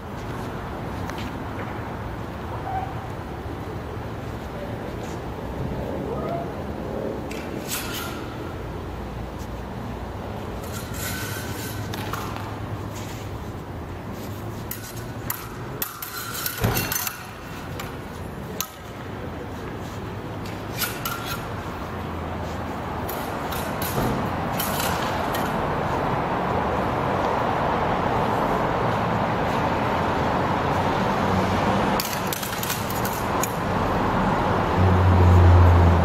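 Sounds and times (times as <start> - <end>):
background traffic: 0.0 - 36.0.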